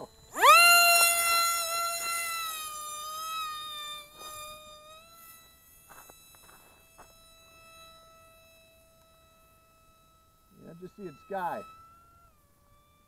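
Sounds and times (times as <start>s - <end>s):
model airplane motor whining: 0.0s - 13.0s.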